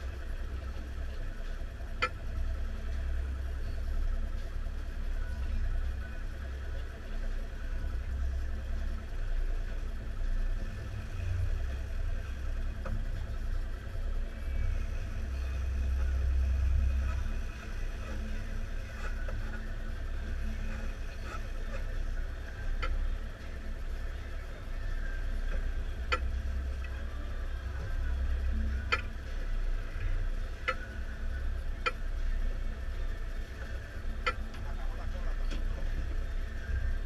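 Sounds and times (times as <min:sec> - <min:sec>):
outboard motors idling: 0:00.0 - 0:37.0.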